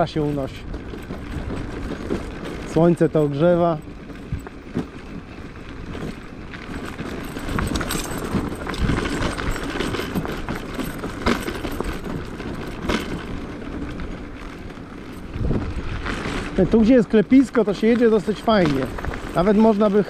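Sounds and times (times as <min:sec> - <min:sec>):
knocks and rattles from bumps: 0:00.0 - 0:20.0
tyres rumbling on gravel: 0:00.0 - 0:20.0.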